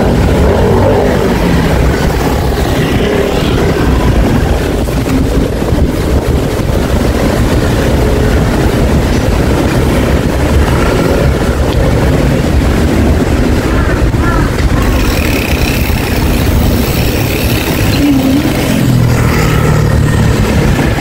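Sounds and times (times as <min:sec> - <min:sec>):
city street traffic: 0:00.0 - 0:21.0
wind rumble on microphone: 0:00.0 - 0:21.0.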